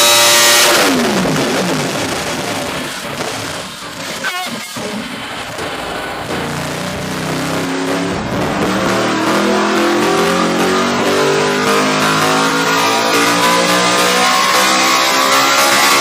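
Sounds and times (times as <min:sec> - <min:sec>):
motorcycle engine revving under load: 0:00.0 - 0:03.3, 0:05.2 - 0:16.0.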